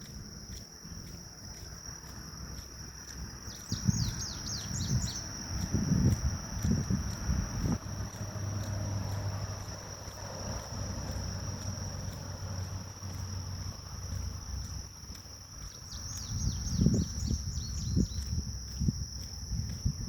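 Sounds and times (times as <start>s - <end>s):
grass insects trilling: 0.0s - 20.0s
low wind rumble on microphone: 0.0s - 20.0s.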